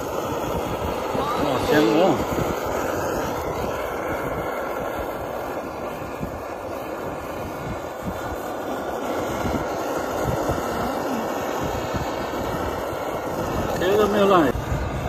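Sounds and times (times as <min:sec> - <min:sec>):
blowtorch flame hissing: 0:00.0 - 0:15.0.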